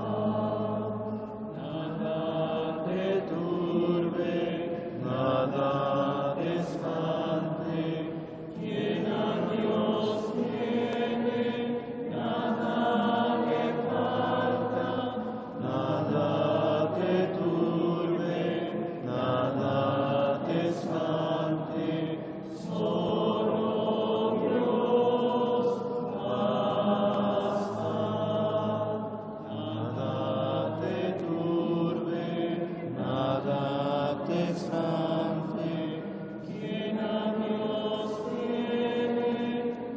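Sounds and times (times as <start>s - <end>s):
congregation singing a chant: 0.0s - 39.9s.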